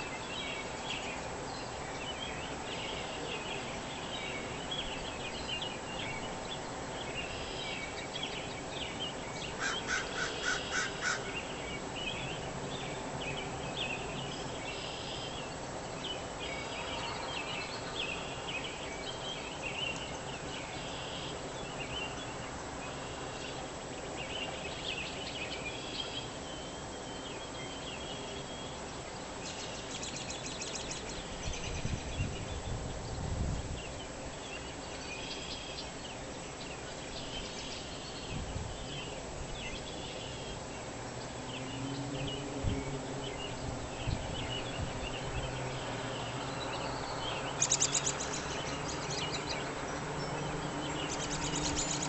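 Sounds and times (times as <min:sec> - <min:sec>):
background hiss: 0:00.0 - 0:52.0
songbirds chirping and trilling: 0:00.0 - 0:52.0.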